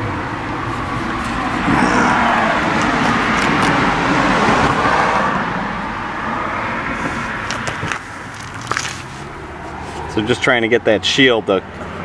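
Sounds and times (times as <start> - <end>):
passing vehicle road noise: 0.0 - 12.0.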